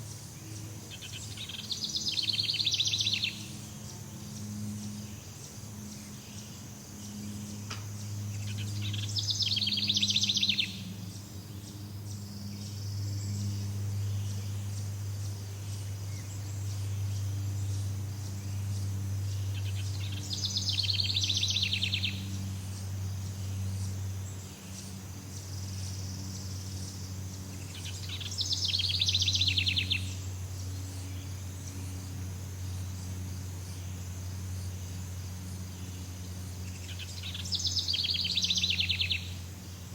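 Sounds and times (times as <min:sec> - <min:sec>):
high insect chorus: 0:00.0 - 0:39.9
low even hum: 0:00.0 - 0:39.9
rapidly pulsed trilling call: 0:00.0 - 0:39.9.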